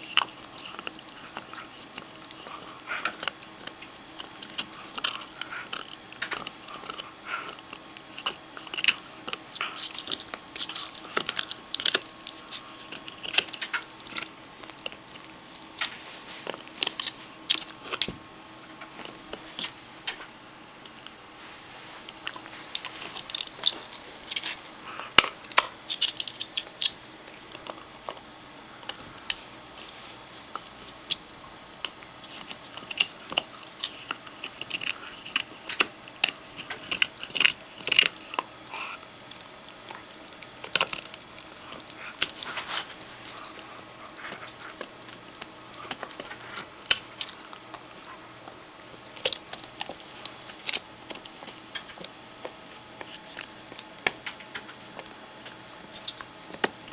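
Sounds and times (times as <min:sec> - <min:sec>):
puppy chewing rawhide: 0:00.0 - 0:56.9.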